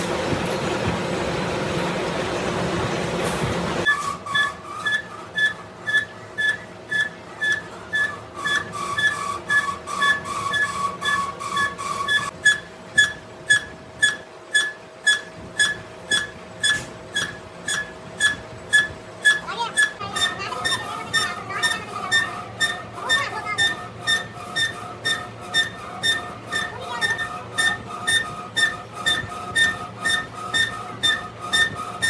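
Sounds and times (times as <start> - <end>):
faint machine whine: 0.0 - 32.0
machine squeaky ticks: 3.8 - 32.0.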